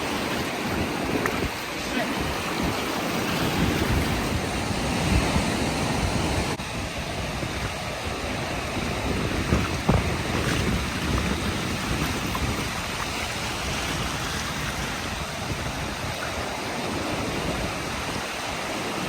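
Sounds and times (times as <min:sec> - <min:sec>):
ocean surf: 0:00.0 - 0:19.0
wind buffeting the microphone: 0:00.0 - 0:19.0.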